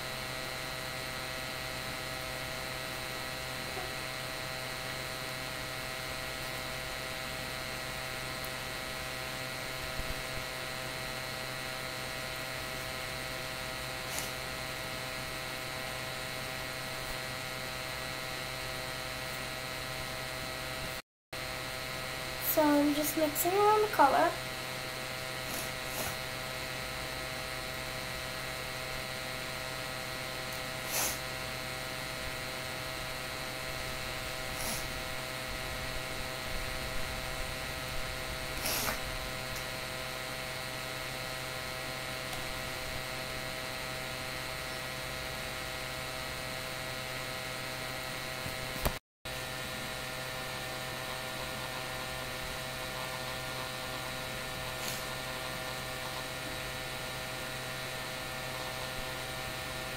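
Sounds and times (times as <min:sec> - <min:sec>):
electrical hum with high tones: 0:00.0 - 0:59.9.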